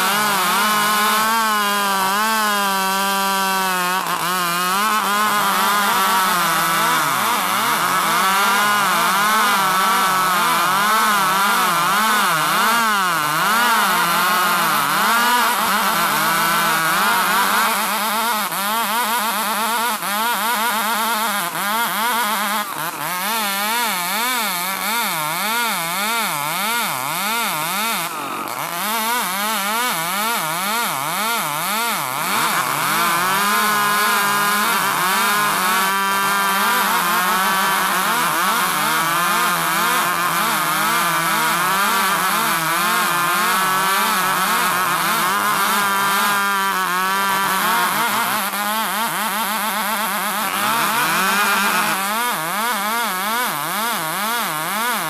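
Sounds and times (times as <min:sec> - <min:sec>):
chainsaws sawing a log: 0:00.0 - 0:55.0.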